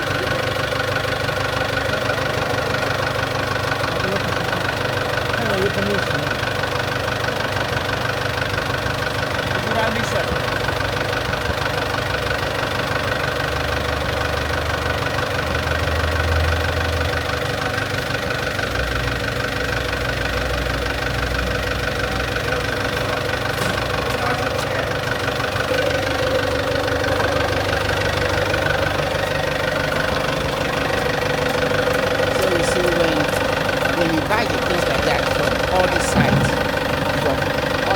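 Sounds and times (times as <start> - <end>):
excavator diesel engine rumbling: 0.0 - 37.9.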